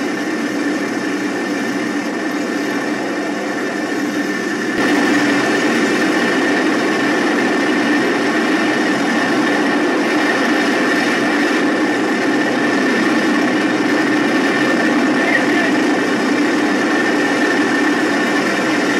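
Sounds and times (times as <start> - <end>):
helicopter engine and rotors: 0.0 - 18.9.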